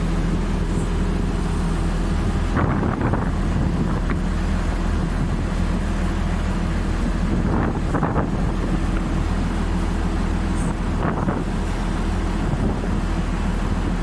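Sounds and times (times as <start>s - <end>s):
ferry engine running: 0.0s - 14.0s
wind buffeting microphone: 0.0s - 14.0s.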